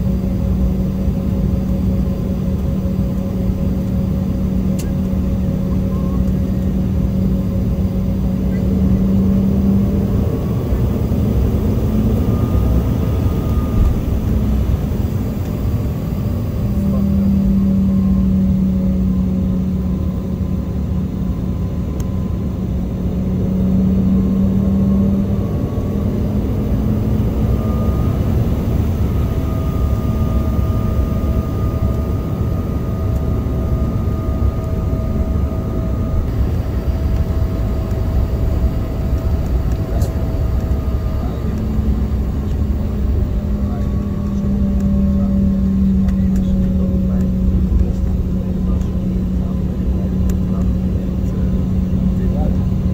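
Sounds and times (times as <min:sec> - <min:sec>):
vehicle engine rumble inside cabin: 0:00.0 - 0:52.9.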